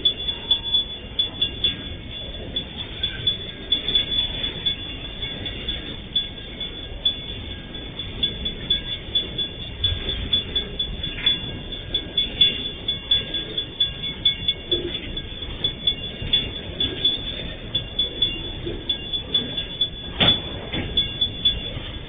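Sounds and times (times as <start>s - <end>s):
freight train rumbling: 0.0s - 22.0s
train clanks and knocks: 0.0s - 22.0s.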